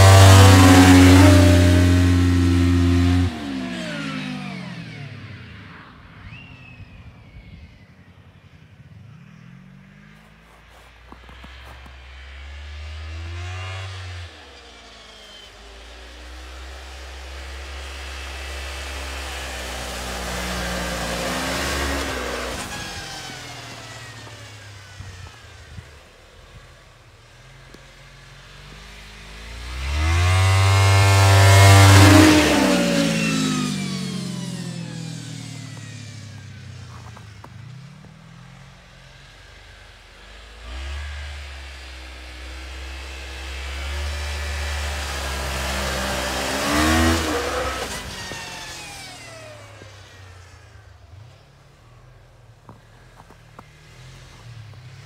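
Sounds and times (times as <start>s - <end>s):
snowmobile engine passing by: 0.0s - 55.0s.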